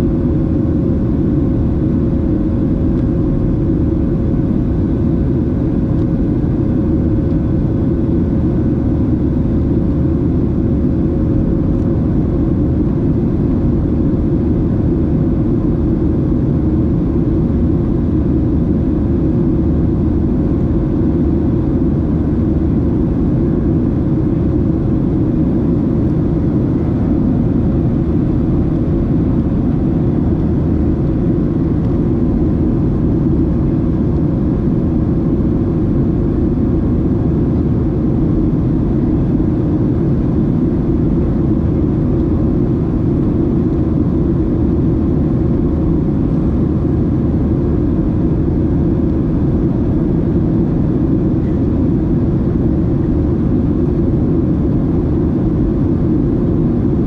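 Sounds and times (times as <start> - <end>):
airplane cabin engine rumble: 0.0 - 57.0
faint steady hum: 0.0 - 57.0.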